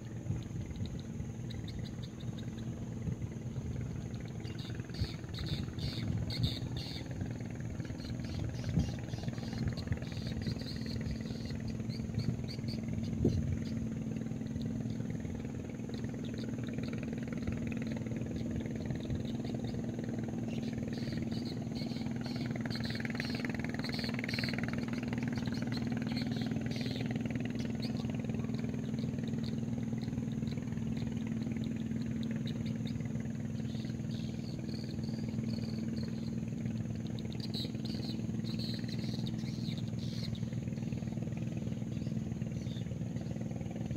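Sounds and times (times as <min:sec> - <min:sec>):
engine running hum: 0:00.0 - 0:43.9.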